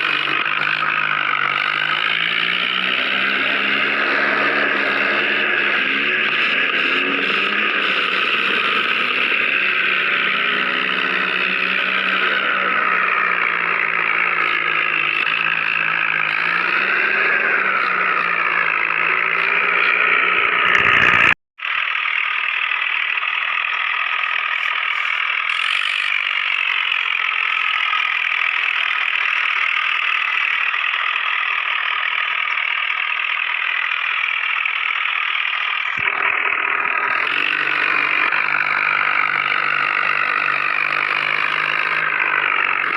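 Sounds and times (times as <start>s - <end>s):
tractor motor running: 0.0s - 42.9s.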